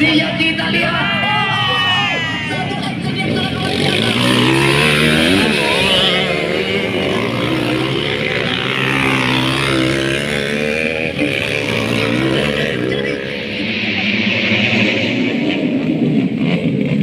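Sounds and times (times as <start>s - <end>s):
motocross engines revving: 0.0s - 17.0s.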